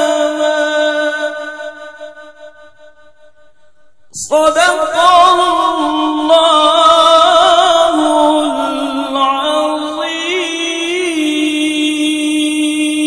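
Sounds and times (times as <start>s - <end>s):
man chanting through a microphone: 0.0s - 2.7s, 4.1s - 13.0s.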